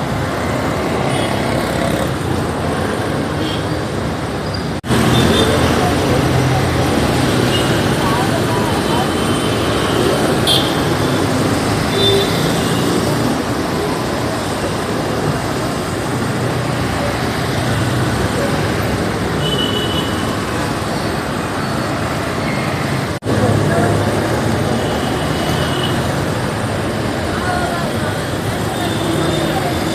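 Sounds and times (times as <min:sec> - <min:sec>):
city street traffic: 0:00.0 - 0:29.9.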